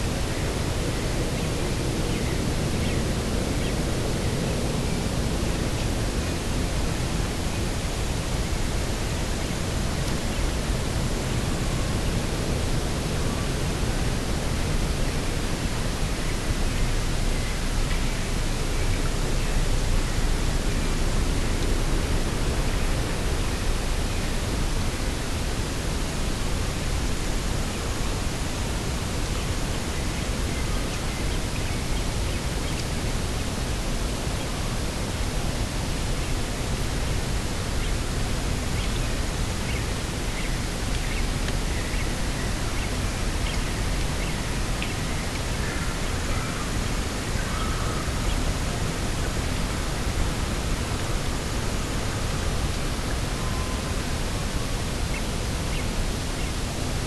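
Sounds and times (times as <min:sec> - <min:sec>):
steady wind: 0:00.0 - 0:57.0.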